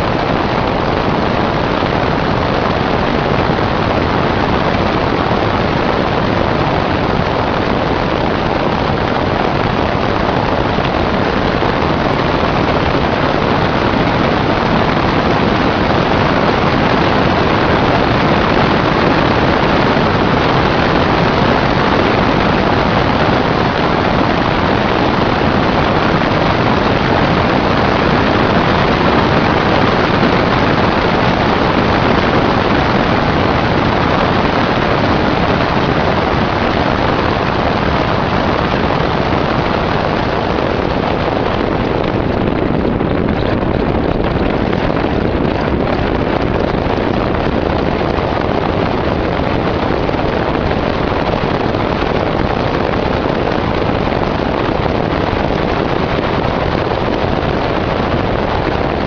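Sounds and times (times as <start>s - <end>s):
wind rush over microphone: 0.0s - 59.0s.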